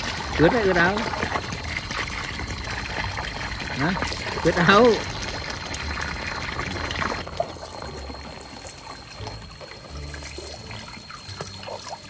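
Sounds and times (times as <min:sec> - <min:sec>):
water pouring into pool: 0:00.0 - 0:12.0.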